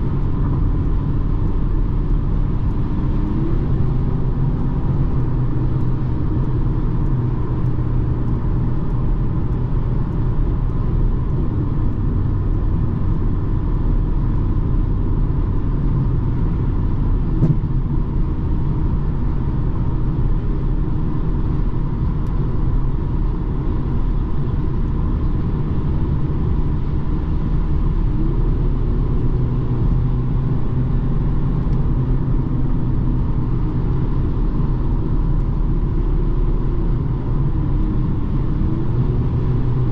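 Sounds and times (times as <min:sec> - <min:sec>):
diesel car engine rumble: 0:00.0 - 0:39.9
road noise: 0:00.0 - 0:39.9.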